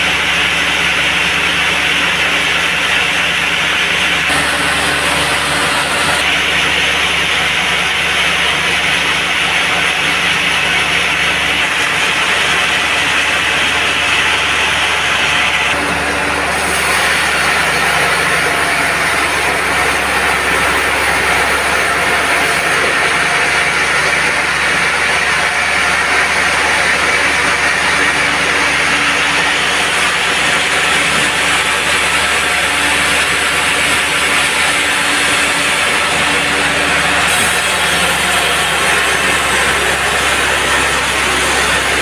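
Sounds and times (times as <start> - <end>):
sawmill machine drone: 0.0 - 42.0
blade sawing through log: 0.1 - 42.0.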